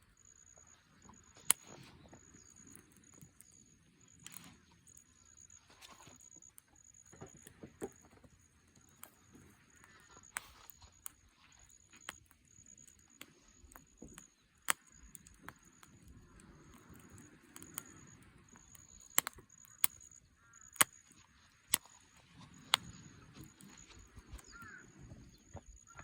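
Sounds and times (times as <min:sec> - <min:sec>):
firewood crackling and popping: 0:00.0 - 0:26.0
low rustle of fire: 0:00.0 - 0:26.0.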